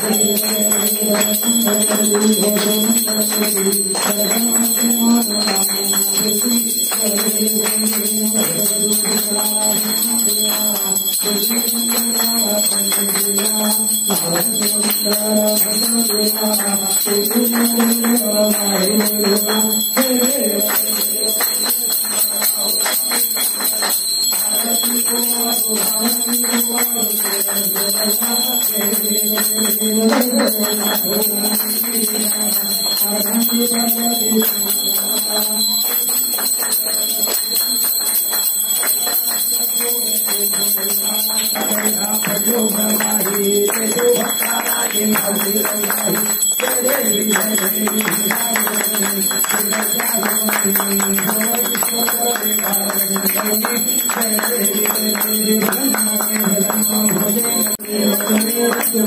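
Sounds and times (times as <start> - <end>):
devotional singing: 0.0 - 37.6, 38.9 - 59.0
bell ringing: 0.0 - 59.0.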